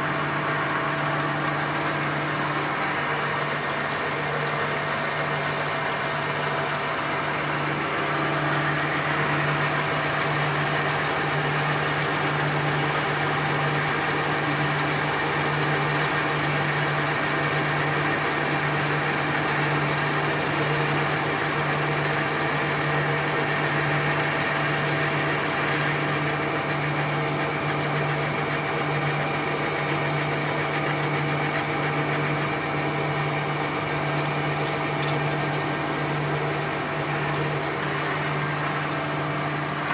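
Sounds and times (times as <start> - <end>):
machinery humming and whirring: 0.0 - 39.9.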